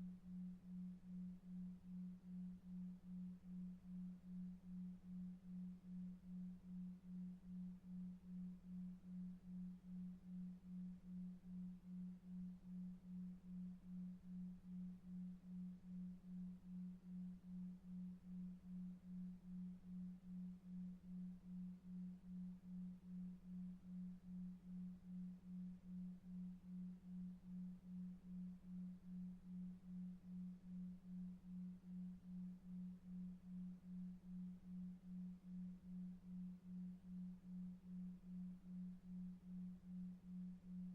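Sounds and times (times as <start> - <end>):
low pulsing pure tone: 0.0 - 40.9.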